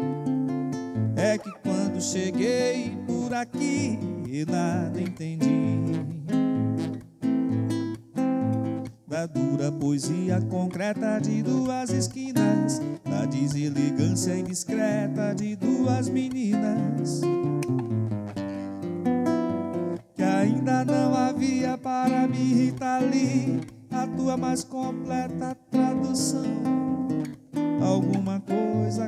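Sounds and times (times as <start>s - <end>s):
acoustic guitar playing: 0.0s - 29.0s.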